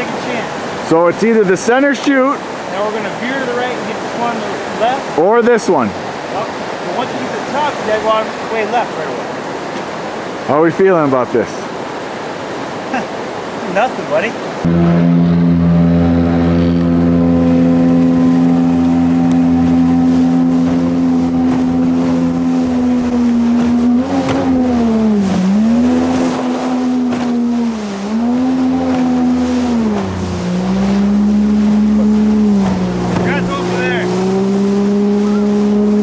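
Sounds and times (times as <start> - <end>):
jet boat engine running hard: 0.0 - 36.0.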